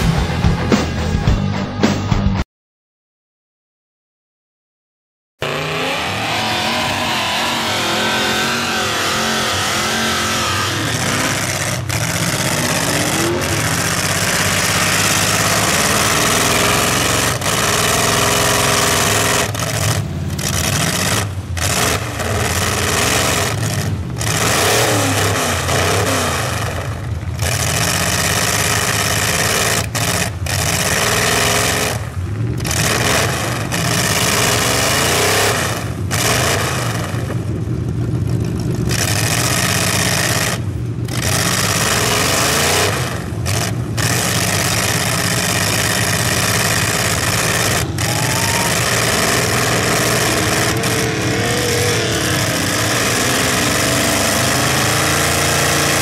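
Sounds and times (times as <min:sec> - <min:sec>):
truck engine revving: 0:05.4 - 0:56.0.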